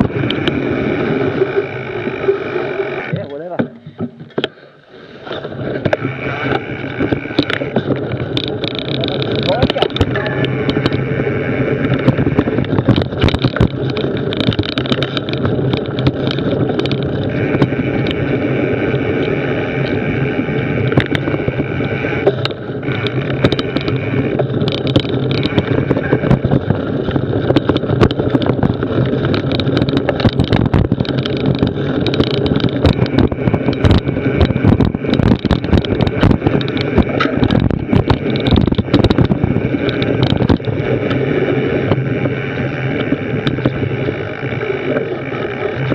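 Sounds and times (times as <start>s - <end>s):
wind on microphone: 0.0s - 4.5s, 5.1s - 45.9s
bike rattling and knocking: 0.0s - 4.6s, 5.2s - 45.9s
tyres rumbling on dirt trail: 0.0s - 45.9s.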